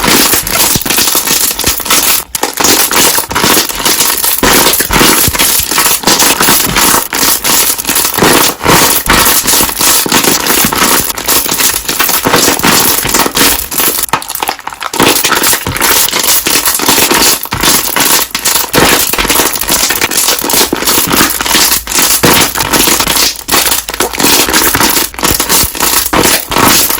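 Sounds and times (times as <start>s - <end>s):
slime bubbles popping: 0.0s - 26.9s.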